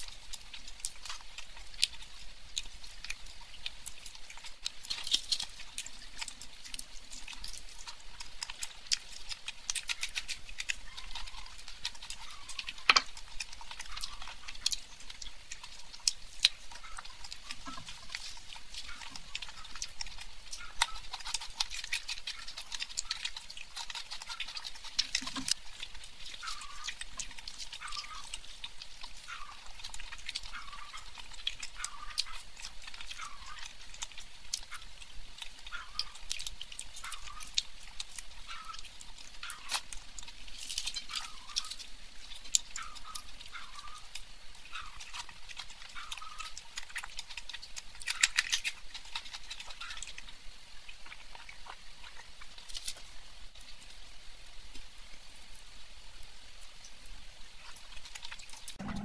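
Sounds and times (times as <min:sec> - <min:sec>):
wet chewing and lip-smacking: 0:00.0 - 0:55.6, 0:56.6 - 0:59.0.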